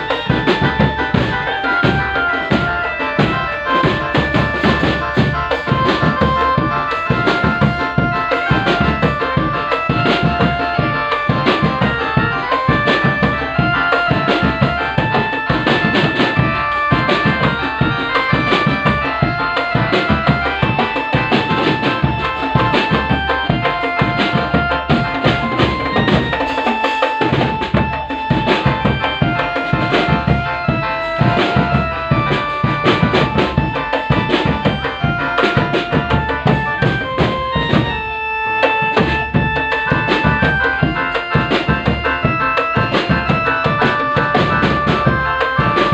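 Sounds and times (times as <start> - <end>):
bass drum beats: 0.0 - 45.9
melody of held notes: 0.0 - 45.9
steady drumming: 0.0 - 45.9.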